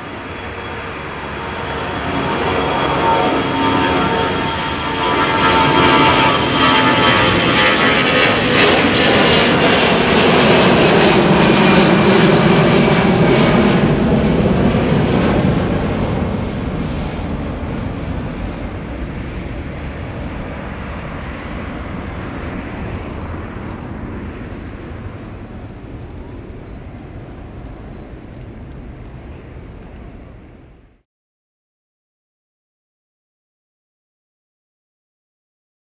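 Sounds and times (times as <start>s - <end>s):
jet engine roar with fan whine: 0.0s - 31.0s.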